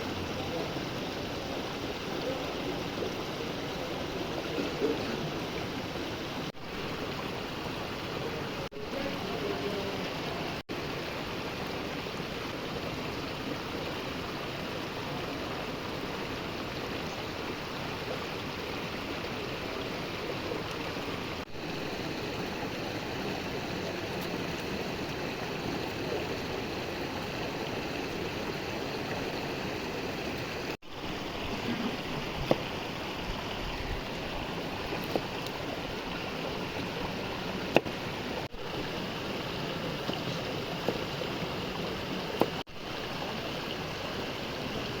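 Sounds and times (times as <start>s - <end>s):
stream flowing: 0.0s - 45.0s.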